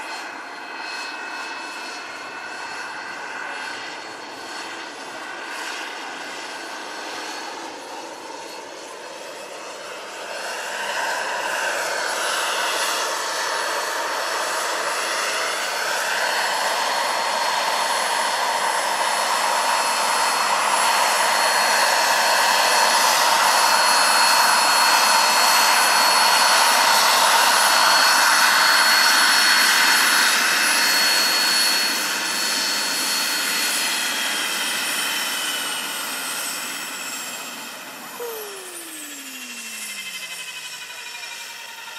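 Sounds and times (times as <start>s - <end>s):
model helicopter turbine whine: 0.0s - 41.9s.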